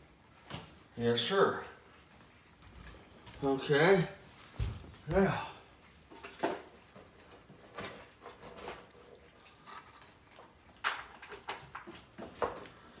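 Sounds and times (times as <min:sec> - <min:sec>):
cats chewing and licking: 0:00.0 - 0:13.0.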